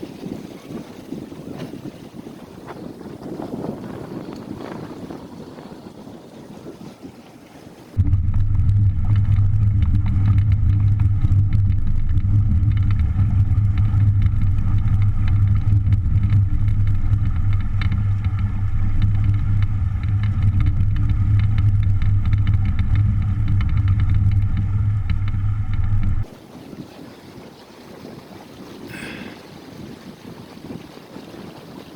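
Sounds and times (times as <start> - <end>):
outboard motor running: 0.0 - 31.9.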